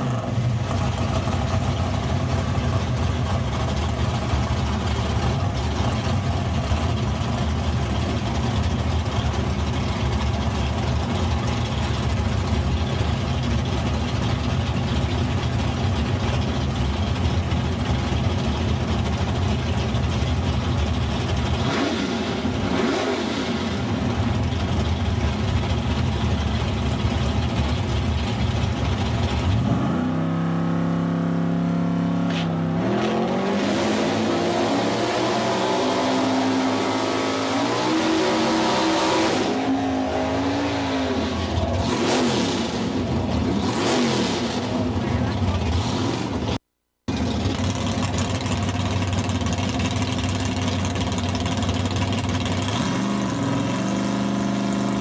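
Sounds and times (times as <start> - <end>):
drag car engine revving: 0.0 - 55.0.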